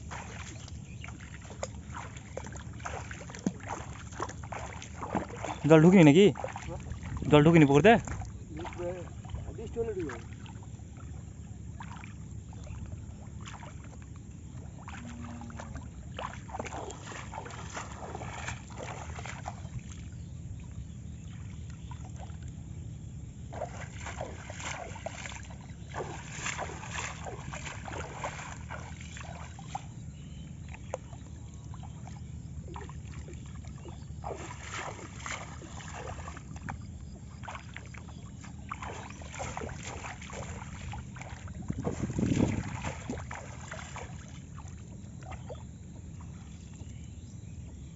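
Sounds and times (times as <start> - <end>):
shallow water splashing: 0.0 - 47.9
wind rumble on microphone: 0.0 - 47.9.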